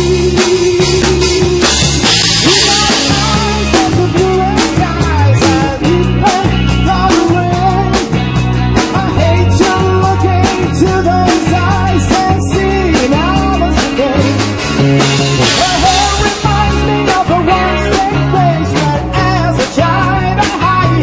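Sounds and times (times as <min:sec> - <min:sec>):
electric guitar lead line: 0:00.0 - 0:21.0
live rock band playing: 0:00.0 - 0:21.0.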